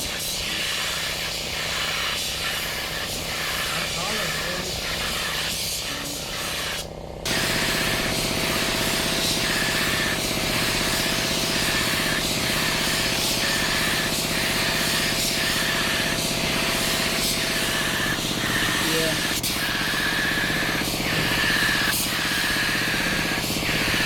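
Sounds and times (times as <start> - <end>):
machine motor humming and pulsing: 0.0 - 24.0.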